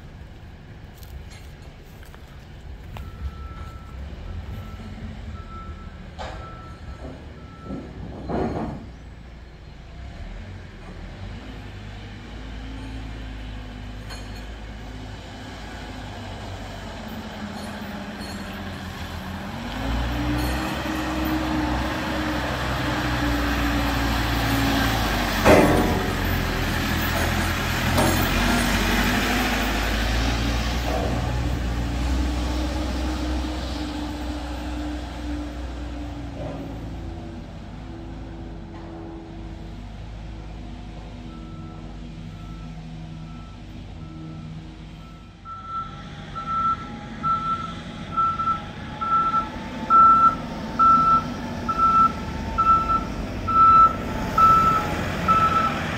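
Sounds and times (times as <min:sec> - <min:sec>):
diesel backhoe engine: 0:00.0 - 0:55.9.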